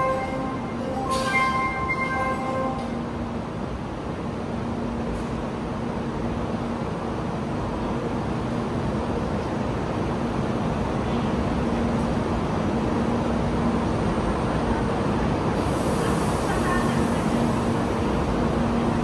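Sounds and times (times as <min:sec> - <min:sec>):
train equipment whirring hum: 0:00.0 - 0:19.0.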